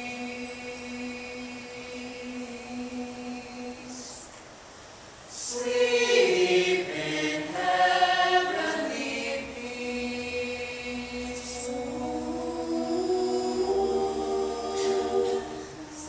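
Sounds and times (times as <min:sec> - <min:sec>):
choir singing in parts: 0:00.0 - 0:04.3, 0:05.3 - 0:16.0.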